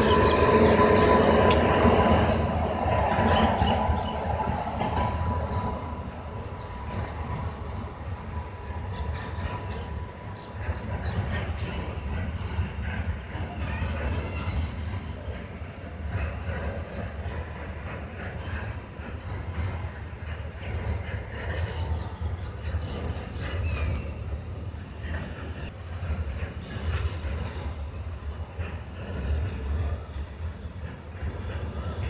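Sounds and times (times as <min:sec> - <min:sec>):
freight train wheels rumbling: 0:00.0 - 0:32.0
train clicks and clanks: 0:00.0 - 0:32.0.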